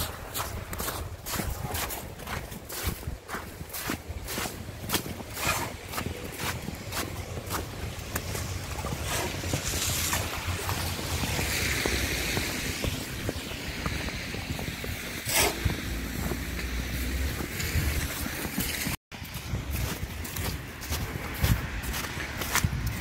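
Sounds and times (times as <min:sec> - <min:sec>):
footsteps crunching through snow: 0:00.0 - 0:23.0
wind rumbling on microphone: 0:00.0 - 0:23.0.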